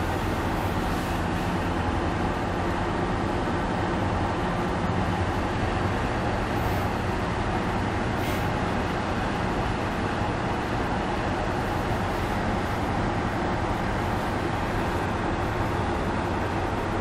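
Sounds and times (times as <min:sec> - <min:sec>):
car road noise from inside: 0:00.0 - 0:17.0.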